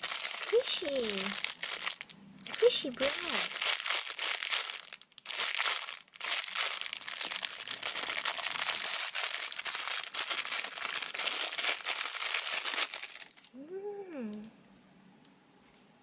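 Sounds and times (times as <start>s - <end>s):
packaging crinkling: 0.0s - 13.5s.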